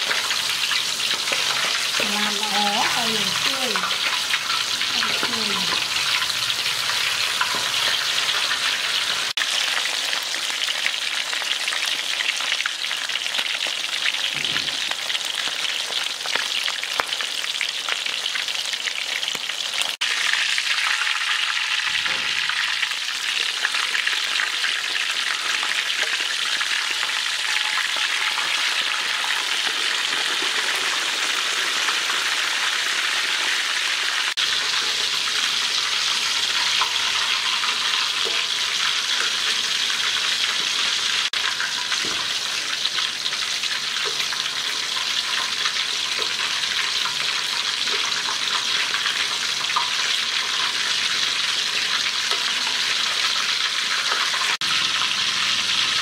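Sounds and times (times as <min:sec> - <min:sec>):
chicken frying in hot oil: 0:00.0 - 0:56.0.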